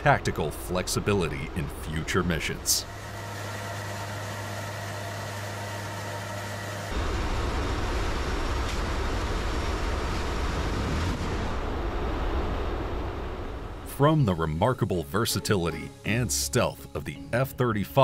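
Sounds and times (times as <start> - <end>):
propeller engines droning: 0.0 - 17.5.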